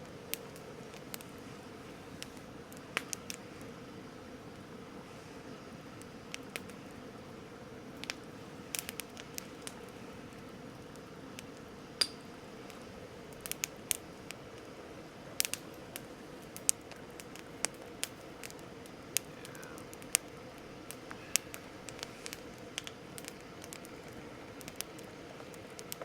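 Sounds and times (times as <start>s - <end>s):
burning wood popping and cracking: 0.0s - 26.0s
campfire hissing: 0.0s - 26.0s.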